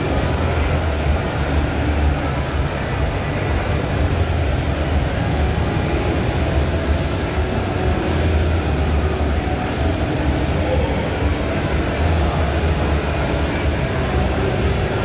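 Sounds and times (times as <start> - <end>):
echoing indoor background din: 0.0 - 15.0.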